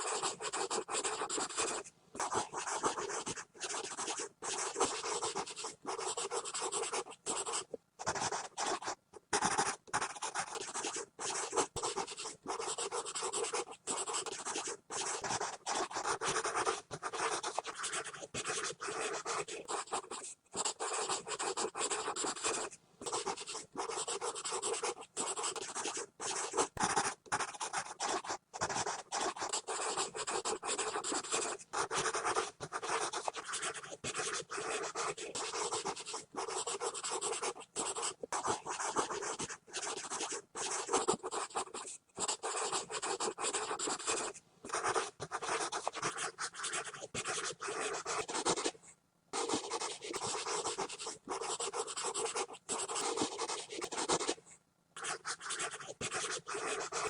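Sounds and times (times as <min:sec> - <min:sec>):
pencil scribbling on paper: 0:00.0 - 0:48.8, 0:49.4 - 0:54.4, 0:55.0 - 0:57.0.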